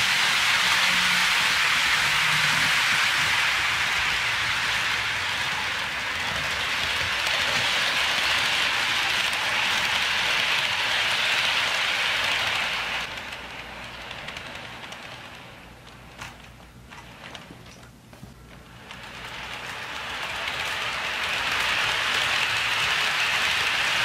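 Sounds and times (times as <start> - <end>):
model train wheels hissing on track: 0.0 - 17.4, 18.7 - 24.0
model locomotive motor: 0.0 - 17.6, 18.5 - 24.0.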